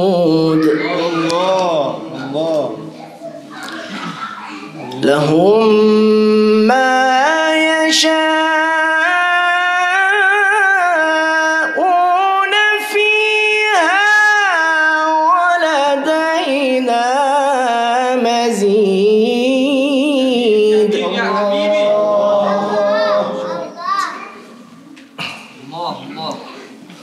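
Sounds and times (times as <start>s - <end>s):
man reciting melodically: 0.0s - 3.1s, 4.7s - 23.8s.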